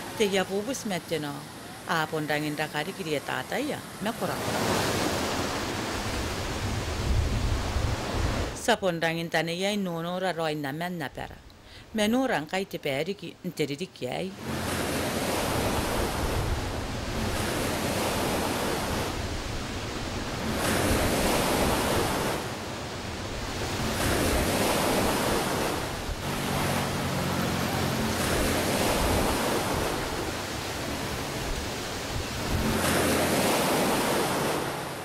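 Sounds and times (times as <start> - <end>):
wind blowing: 0.0 - 8.6, 14.3 - 35.0
water rushing: 0.0 - 8.7, 14.3 - 35.0
waves surging over shore: 0.0 - 8.7, 14.3 - 35.0.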